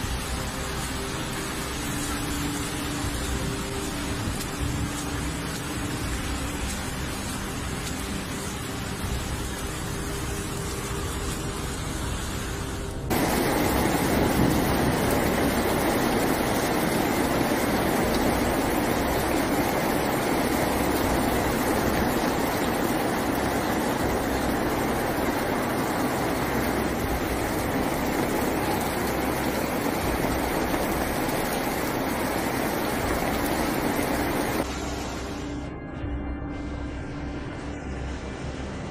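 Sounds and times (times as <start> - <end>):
floodwater rushing: 0.0 - 35.5
heavy rain pelting a street: 0.0 - 35.7.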